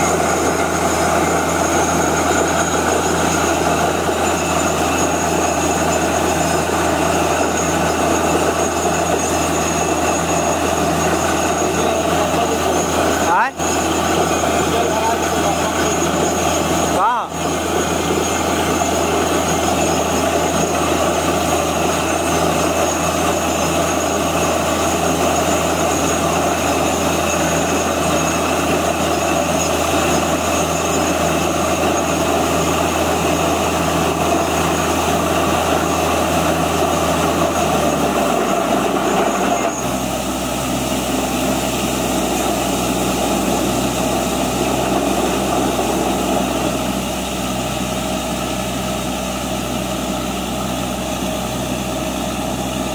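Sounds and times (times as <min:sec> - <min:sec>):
water blowing out of bore: 0:00.0 - 0:49.9
drilling rig running: 0:00.0 - 0:52.9.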